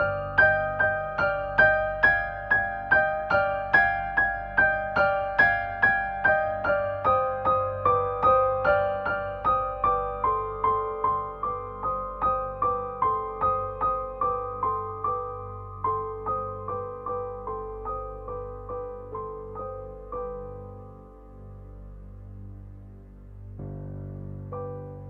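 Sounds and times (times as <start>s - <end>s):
gentle keyboard melody: 0.0s - 25.0s.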